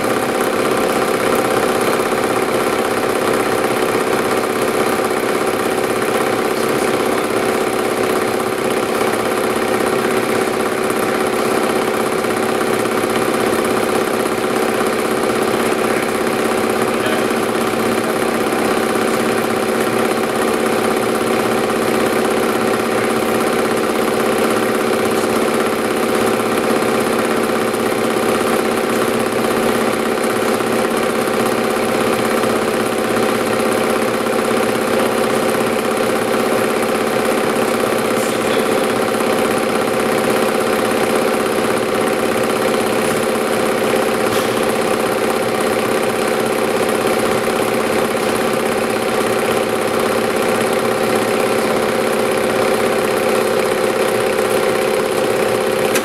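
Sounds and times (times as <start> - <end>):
vibration test machine droning: 0.0 - 56.0.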